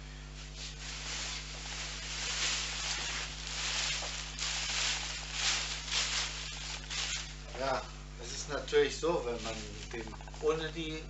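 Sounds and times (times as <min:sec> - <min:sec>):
steady low hum: 0:00.0 - 0:11.0
plastic bag rustling: 0:00.3 - 0:07.8, 0:09.1 - 0:10.8.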